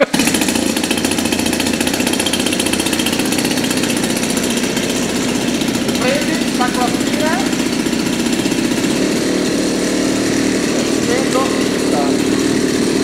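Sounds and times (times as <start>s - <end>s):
two-stroke petrol engine running: 0.0s - 13.0s.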